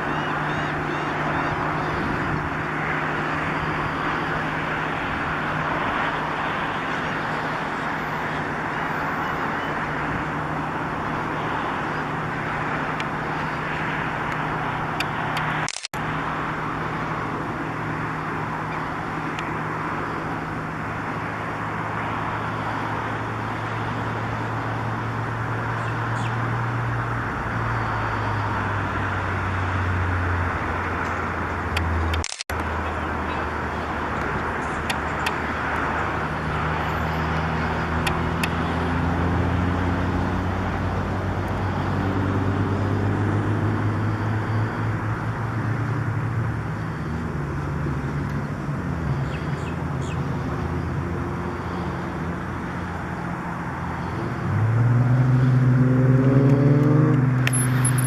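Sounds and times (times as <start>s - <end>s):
low engine hum: 0.0s - 58.0s
rushing background noise: 0.0s - 58.0s.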